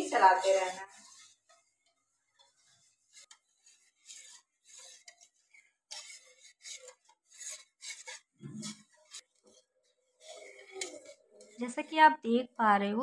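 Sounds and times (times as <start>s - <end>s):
metal spoon scraping saucepan: 0.0s - 12.6s.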